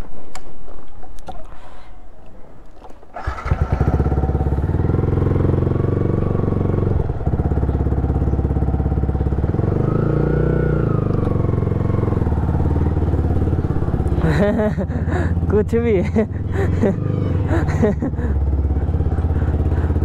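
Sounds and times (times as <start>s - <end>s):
motorcycle engine running: 3.2s - 20.0s.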